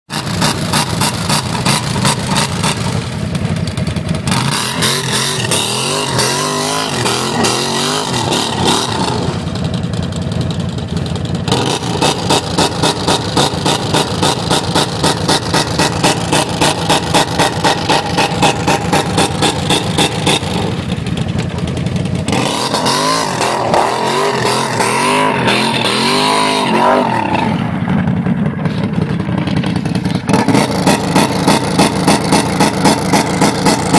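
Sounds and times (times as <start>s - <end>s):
atv engines revving: 0.1s - 33.9s.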